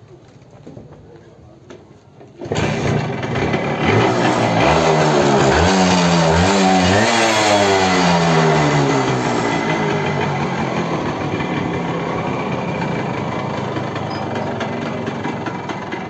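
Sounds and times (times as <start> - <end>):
motorcycle engine revving: 2.4 - 16.0.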